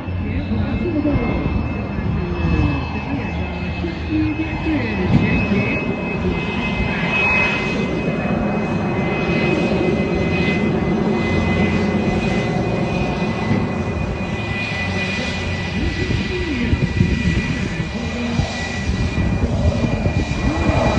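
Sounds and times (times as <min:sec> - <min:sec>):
fighter jet engine roar: 0:00.0 - 0:20.9
high jet whine: 0:00.0 - 0:20.9.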